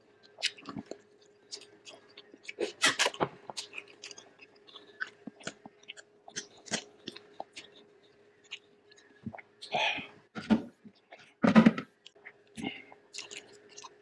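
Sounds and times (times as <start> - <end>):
chewing and lip-smacking: 0.2 - 9.8, 12.0 - 14.0.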